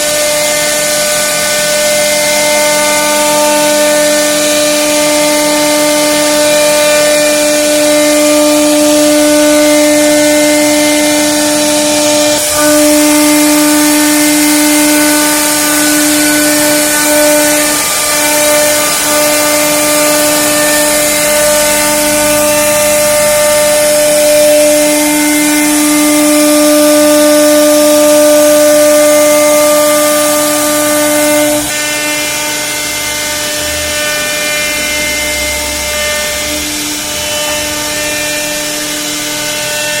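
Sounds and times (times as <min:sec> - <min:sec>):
router spindle whining cutting wood: 0:00.0 - 0:40.0.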